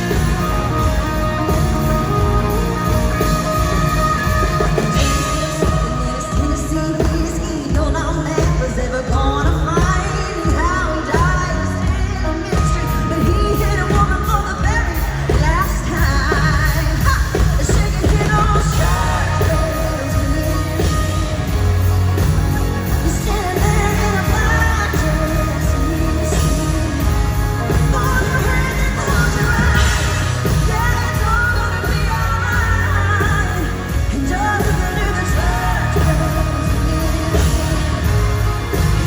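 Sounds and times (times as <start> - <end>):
band playing country-pop: 0.0 - 39.0
woman singing: 0.0 - 39.0.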